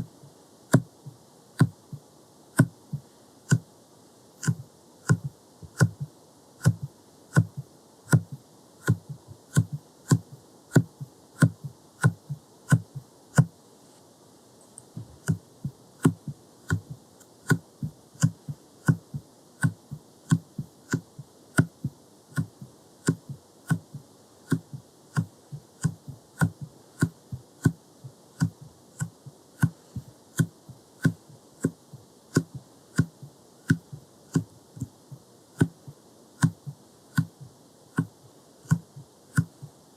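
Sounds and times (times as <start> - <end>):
soft taps of silicone stamper: 0.7 - 2.0, 2.6 - 3.7, 4.4 - 13.5, 14.7 - 27.8, 28.4 - 35.0, 35.6 - 39.7.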